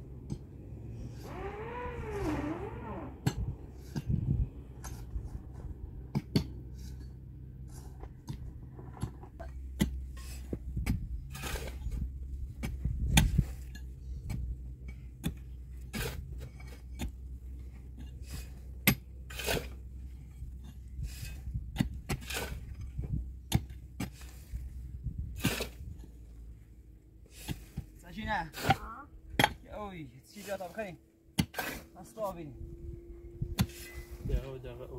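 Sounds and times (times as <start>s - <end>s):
steady low rumble: 0.0s - 28.4s, 32.3s - 34.9s.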